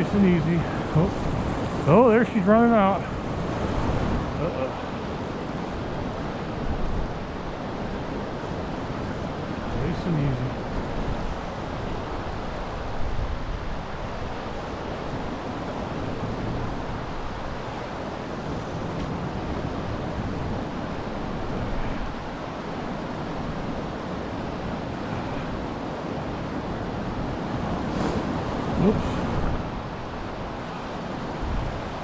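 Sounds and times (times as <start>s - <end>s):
river water over rapids: 0.0s - 32.0s
wind buffeting microphone: 0.0s - 32.0s.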